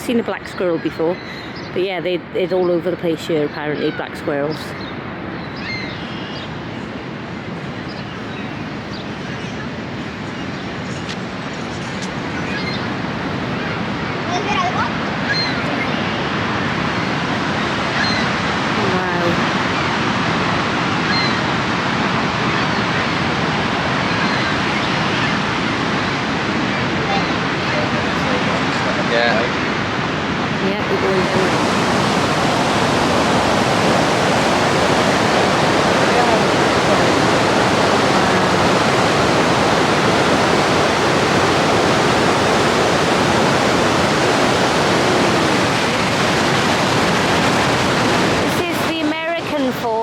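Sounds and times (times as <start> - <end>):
waterfall rushing: 5.7 - 50.0.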